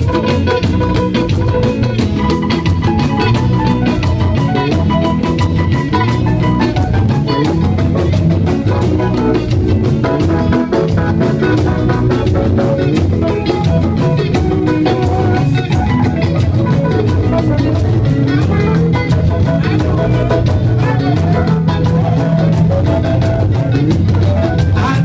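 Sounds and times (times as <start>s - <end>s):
live band music: 0.0s - 25.0s.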